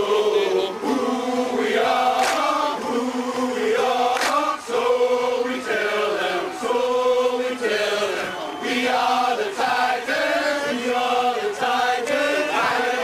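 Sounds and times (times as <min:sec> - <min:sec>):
choir chanting in unison: 0:00.0 - 0:13.0.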